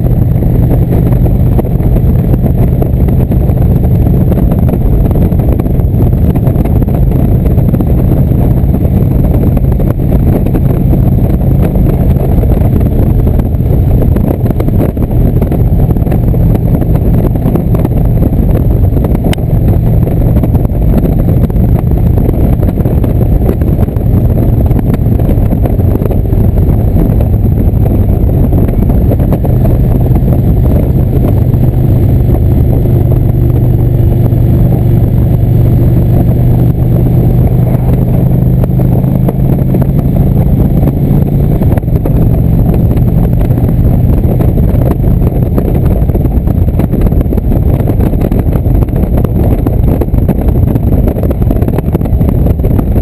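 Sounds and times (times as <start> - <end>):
motorcycle engine drone: 0.0 - 53.0
wind buffeting microphone: 0.0 - 53.0.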